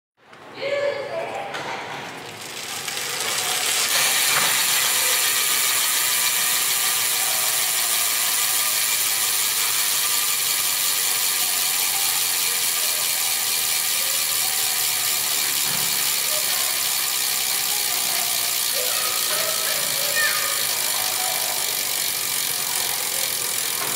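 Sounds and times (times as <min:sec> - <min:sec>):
bicycle hub ratchet buzzing: 0:02.3 - 0:23.9.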